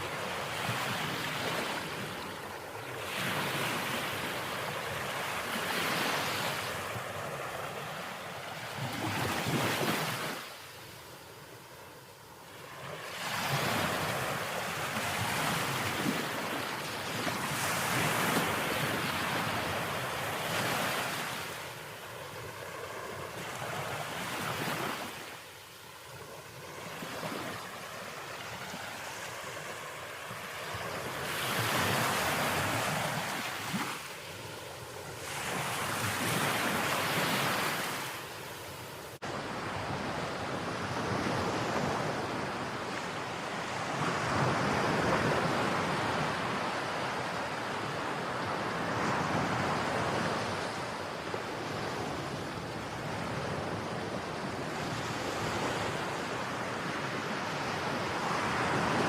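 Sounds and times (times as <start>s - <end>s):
sea waves breaking on a beach: 0.0s - 59.0s.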